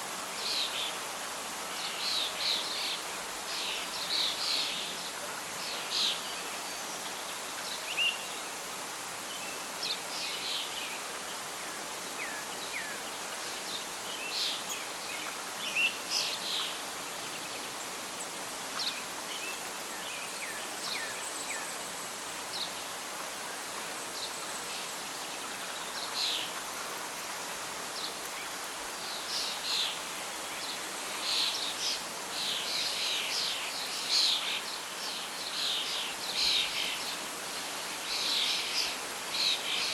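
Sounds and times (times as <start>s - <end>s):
wind in leaves: 0.0s - 39.9s.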